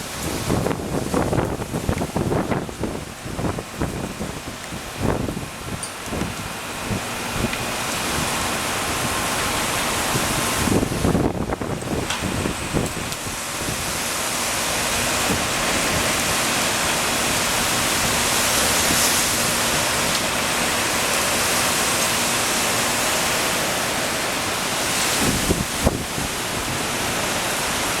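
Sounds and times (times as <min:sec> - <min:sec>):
strong storm wind rushing: 0:00.0 - 0:28.0.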